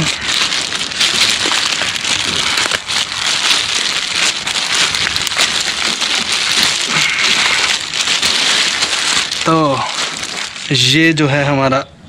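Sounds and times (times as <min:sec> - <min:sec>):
plastic mailer crinkling torn open: 0:00.0 - 0:11.2.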